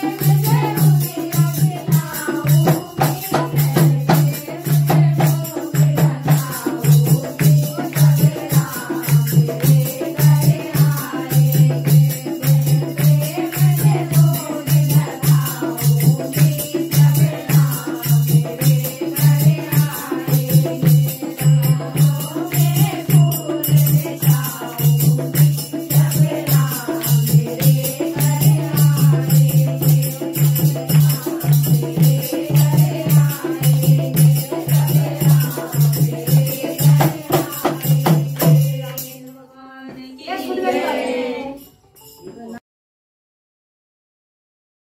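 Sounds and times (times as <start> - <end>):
hand drum beat: 0.0 - 39.1
jingling hand cymbals: 0.0 - 39.4, 40.3 - 42.6
women singing devotional song: 0.0 - 42.6.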